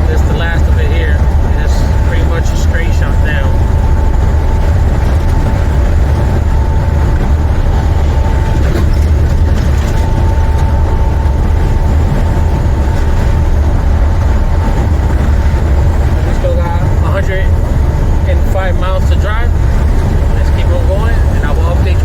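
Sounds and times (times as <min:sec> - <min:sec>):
thin steady whine: 0:00.0 - 0:22.0
truck diesel engine rumbling: 0:00.0 - 0:22.0.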